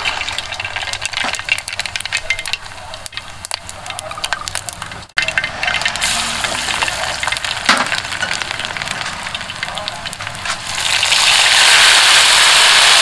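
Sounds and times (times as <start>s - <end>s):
food sizzling in a pan: 0.0s - 4.3s, 5.2s - 13.0s.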